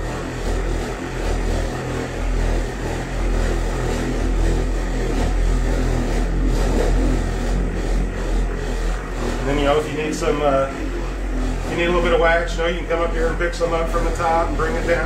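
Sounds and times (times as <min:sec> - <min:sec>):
electric polisher running: 0:00.0 - 0:15.0.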